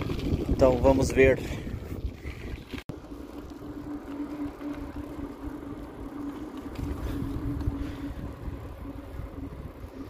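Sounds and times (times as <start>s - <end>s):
bicycle tyre hum: 0.0s - 10.0s
wind rumble on microphone: 0.0s - 10.0s.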